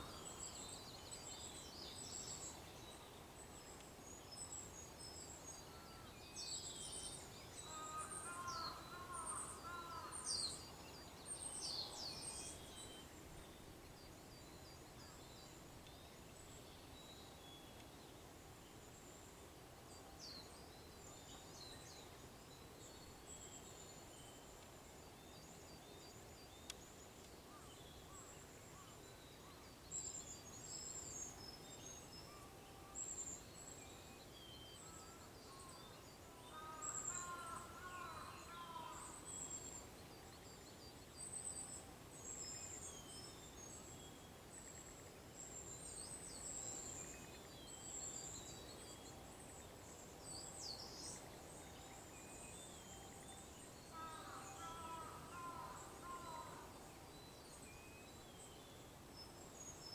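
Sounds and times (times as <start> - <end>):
lower warbling bird song: 0.0 - 59.9.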